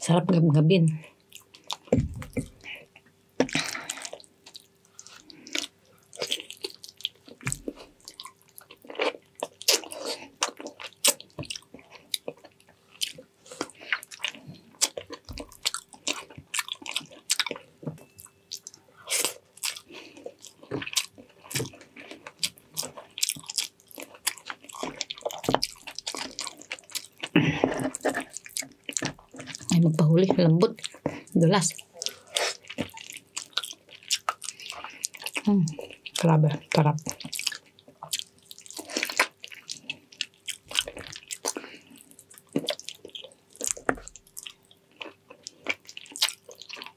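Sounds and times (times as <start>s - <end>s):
chewing and lip smacking: 1.3s - 29.8s, 30.7s - 36.3s, 37.0s - 46.9s.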